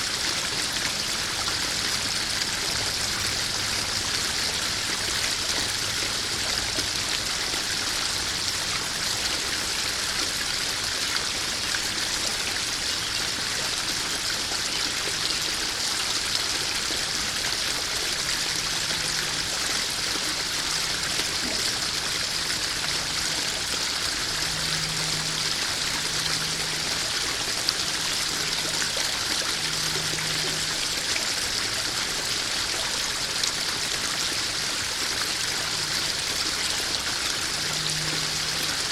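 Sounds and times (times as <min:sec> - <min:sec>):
small waterfall splashing into pond: 0:00.0 - 0:38.9.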